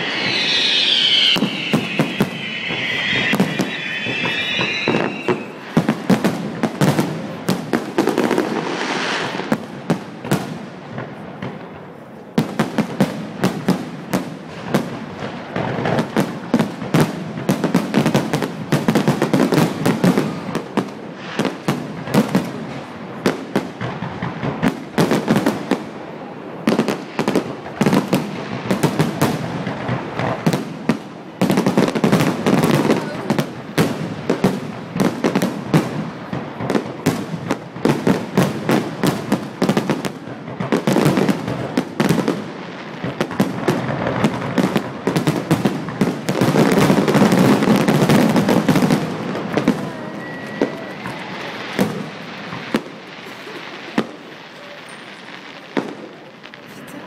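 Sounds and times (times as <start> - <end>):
fireworks high whistles: 0.0 - 7.2, 8.1 - 9.6, 14.8 - 25.9, 26.6 - 57.0
fireworks bursting and crackling: 0.0 - 57.0.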